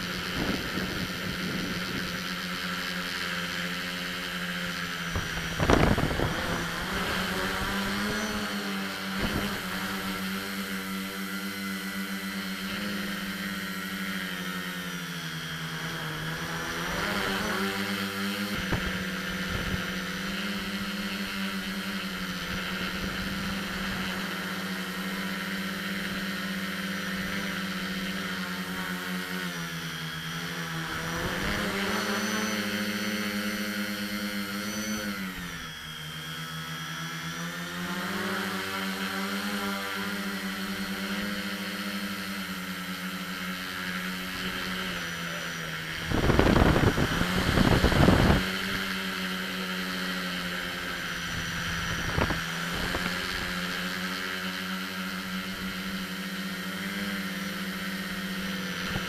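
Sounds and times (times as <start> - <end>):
drone motors whining: 0.0 - 59.0.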